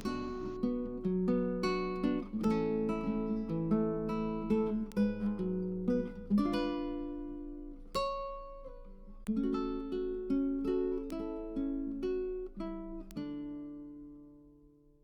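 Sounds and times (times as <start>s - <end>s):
plucked acoustic guitar chords: 0.0s - 15.0s.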